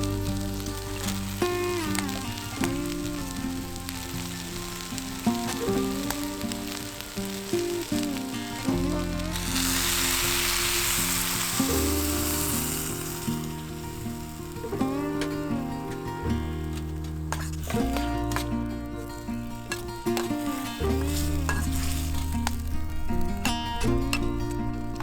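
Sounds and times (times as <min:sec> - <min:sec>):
food sizzling in a frying pan: 0:00.0 - 0:25.0
instrumental background music: 0:00.0 - 0:25.0.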